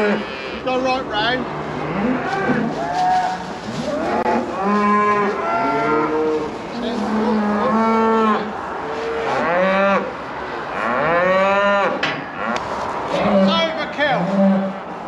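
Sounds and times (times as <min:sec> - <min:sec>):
cattle bellowing: 0:00.0 - 0:00.9, 0:01.5 - 0:14.8.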